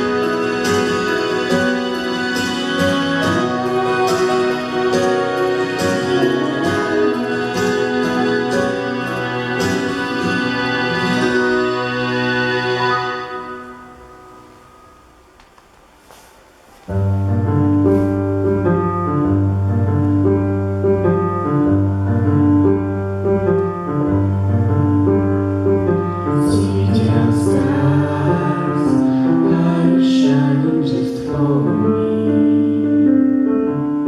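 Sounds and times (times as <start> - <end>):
keyboard chords: 0.0 - 15.6, 16.9 - 34.0.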